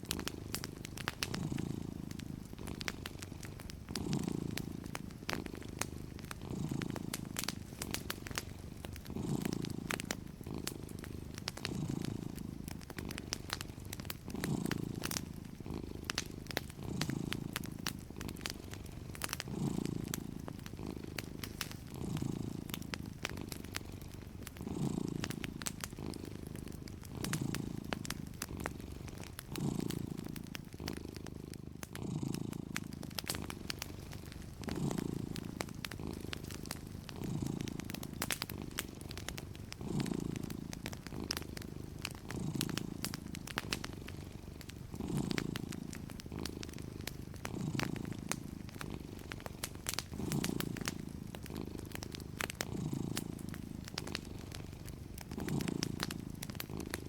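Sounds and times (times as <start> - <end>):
cat purring: 0.0 - 57.0
fireplace crackling: 0.0 - 57.0.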